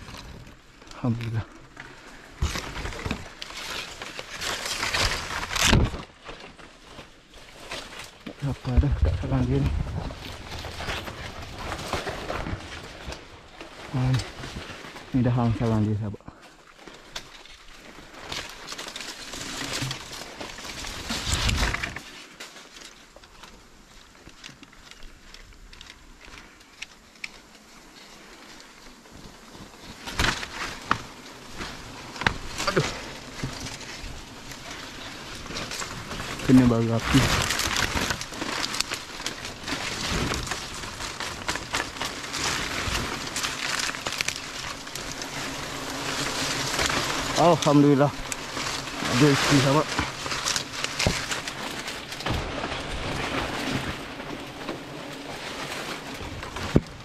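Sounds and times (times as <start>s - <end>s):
palm fronds rustling and crackling: 0.0s - 57.0s.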